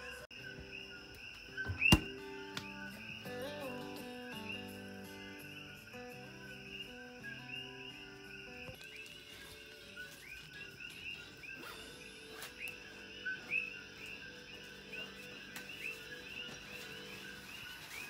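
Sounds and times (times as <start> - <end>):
frogs chirping: 0.0 - 18.0.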